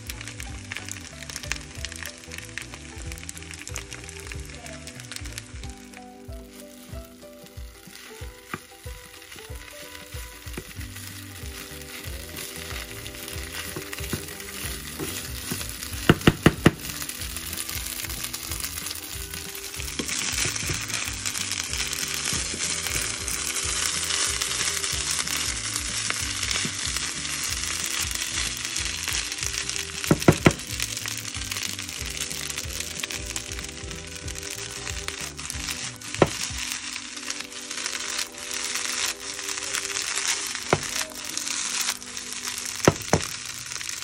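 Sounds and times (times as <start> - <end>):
rice sizzling in a frying pan: 0.0 - 44.0.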